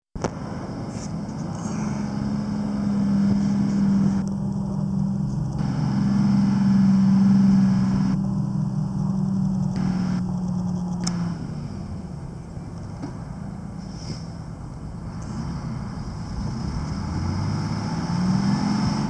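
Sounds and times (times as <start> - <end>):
diesel engine running: 0.2 - 19.0.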